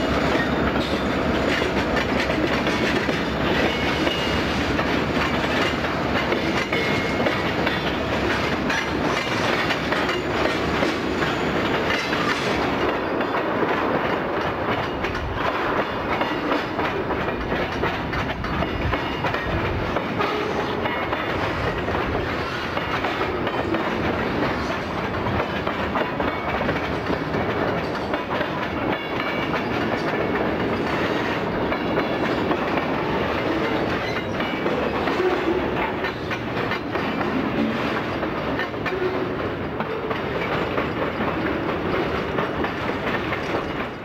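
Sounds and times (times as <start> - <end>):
steel wheels on rail: 0.0 - 44.0.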